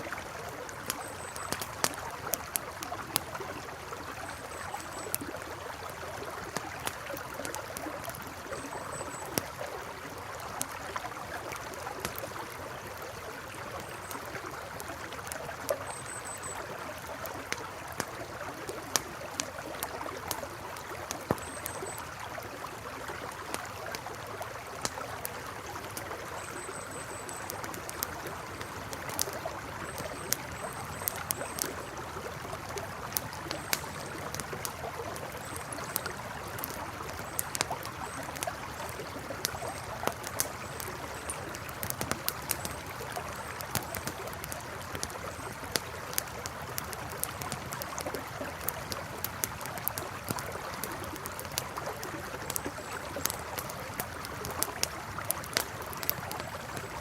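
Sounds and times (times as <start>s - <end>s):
campfire crackling and popping: 0.0s - 57.0s
river flowing: 0.0s - 57.0s.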